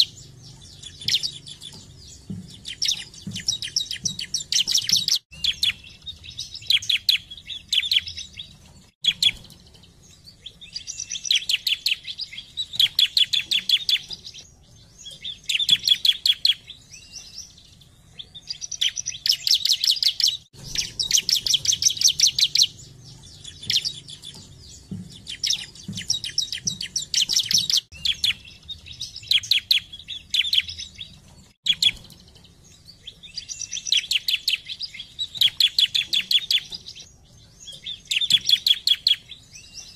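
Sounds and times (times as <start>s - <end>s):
bird singing rapid high chirps: 0.0s - 39.9s.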